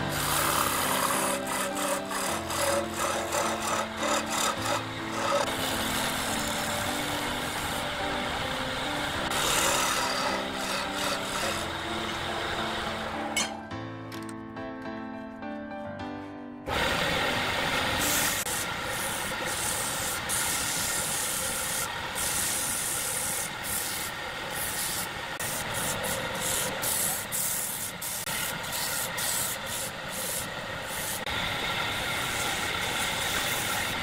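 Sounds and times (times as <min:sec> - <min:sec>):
wood lathe running: 0:00.0 - 0:13.4, 0:16.7 - 0:34.0
tool cutting spinning wood: 0:00.0 - 0:13.6, 0:16.7 - 0:34.0.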